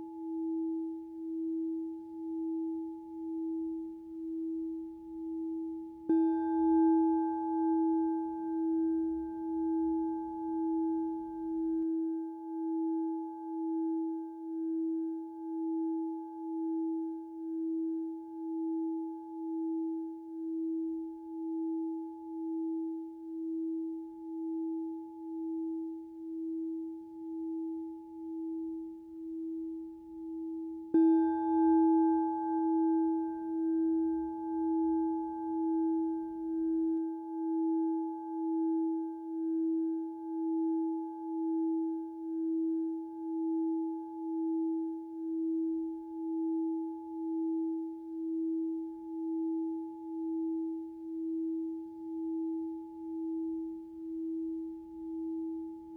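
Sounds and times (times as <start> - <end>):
singing bowl low ringing tone: 0.0 - 55.9.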